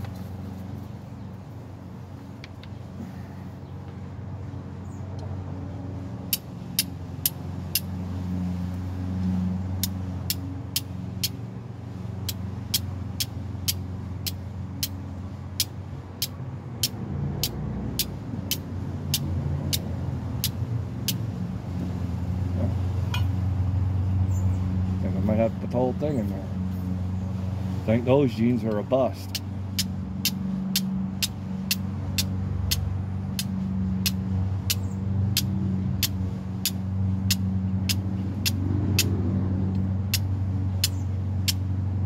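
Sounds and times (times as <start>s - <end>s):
low engine drone: 0.0s - 42.0s.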